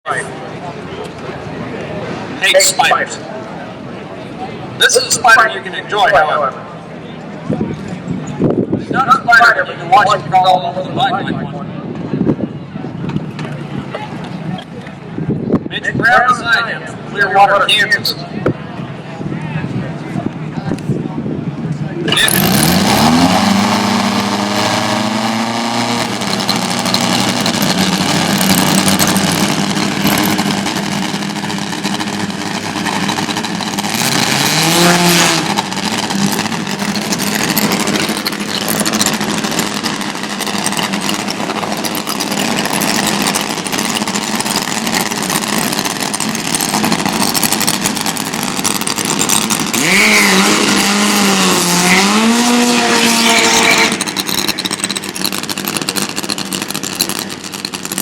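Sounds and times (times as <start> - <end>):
motorcycle engines at full throttle: 0.0 - 58.0.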